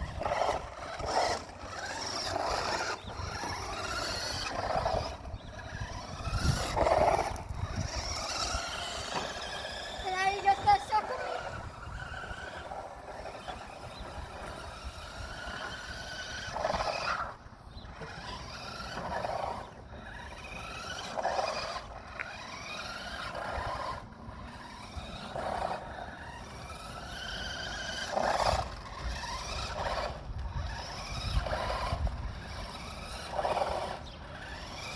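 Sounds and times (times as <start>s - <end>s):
toy car electric motor whining: 0.0s - 34.9s.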